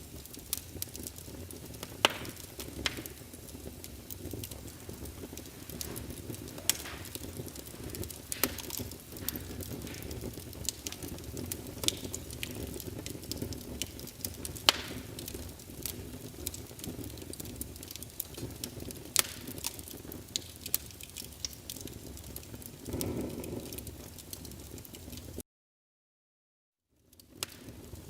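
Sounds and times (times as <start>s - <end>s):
fireplace fire crackling: 0.0s - 25.4s, 27.0s - 28.0s.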